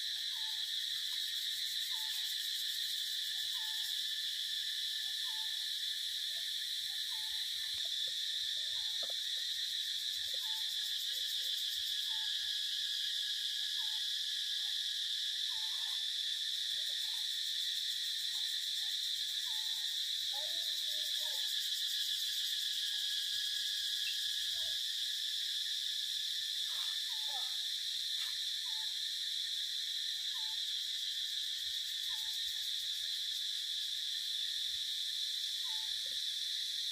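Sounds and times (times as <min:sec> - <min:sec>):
insect chorus drone: 0:00.0 - 0:36.9.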